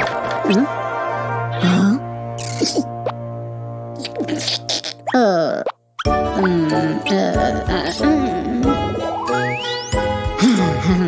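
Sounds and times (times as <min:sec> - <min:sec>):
playful cartoon music: 0:00.0 - 0:11.0.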